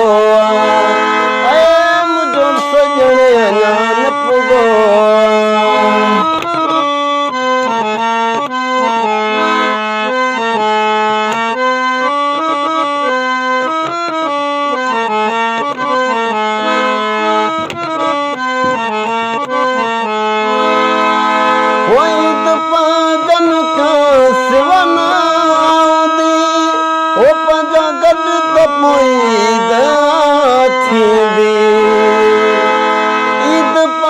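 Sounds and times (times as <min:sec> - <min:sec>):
free-reed instrument melody: 0:00.0 - 0:34.0.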